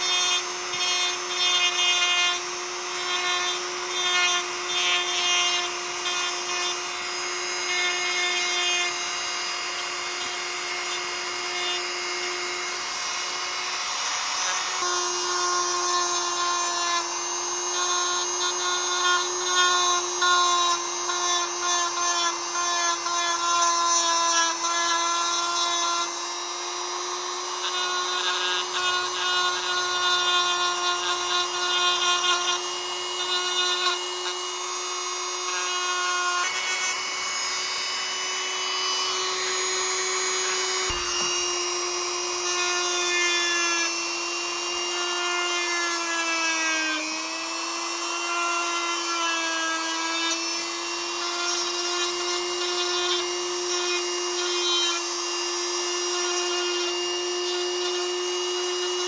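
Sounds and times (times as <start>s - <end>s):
rotary tool grinding steel blade: 0.0s - 59.0s.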